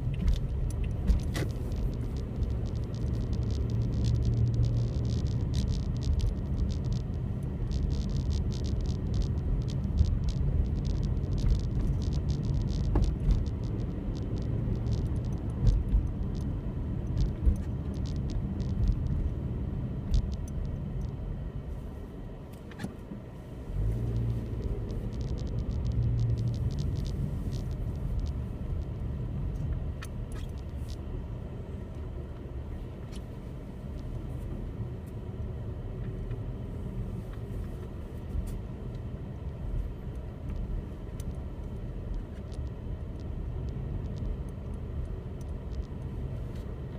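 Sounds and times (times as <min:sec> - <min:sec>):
car engine rumbling: 0:00.0 - 0:46.9.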